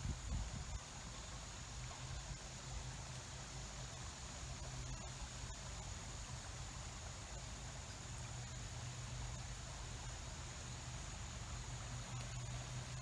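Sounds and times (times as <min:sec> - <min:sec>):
water running over creek: 0:00.0 - 0:13.0.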